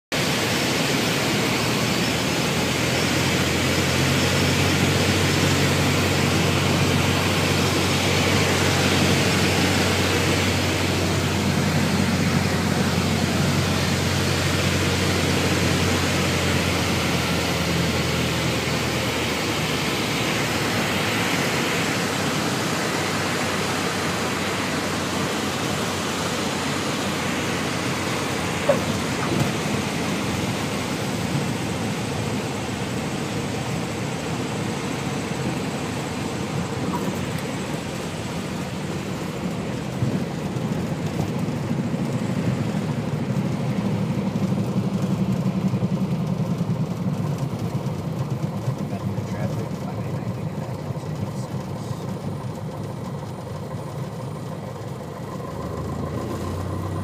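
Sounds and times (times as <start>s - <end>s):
airplane engine and propeller rushing: 0.1s - 57.0s
low engine drone: 0.1s - 57.0s.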